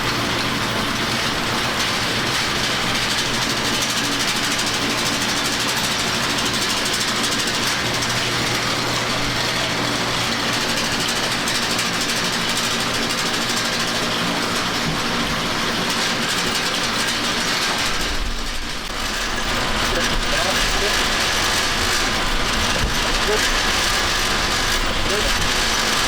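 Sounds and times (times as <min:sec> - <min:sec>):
engine running: 0:00.0 - 0:26.0
mechanical clatter: 0:00.0 - 0:26.0.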